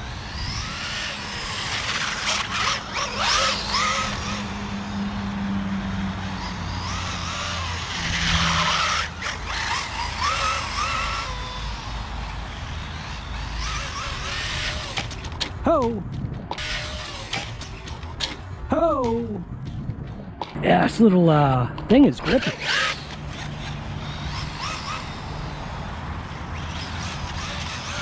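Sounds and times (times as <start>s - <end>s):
rc car motor revving: 0.0s - 15.9s, 16.5s - 18.6s, 22.0s - 28.0s.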